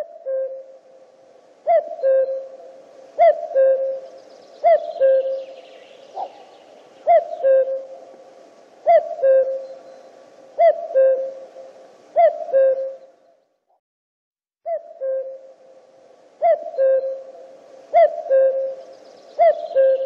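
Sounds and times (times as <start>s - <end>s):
cuckoo calling: 0.0s - 1.0s, 1.6s - 13.4s, 14.7s - 20.0s.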